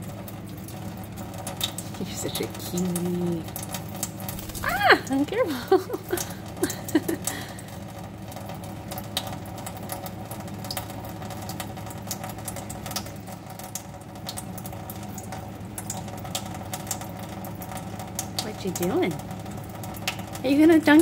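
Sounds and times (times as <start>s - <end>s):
water splashes from bird bathing: 0.0s - 21.0s.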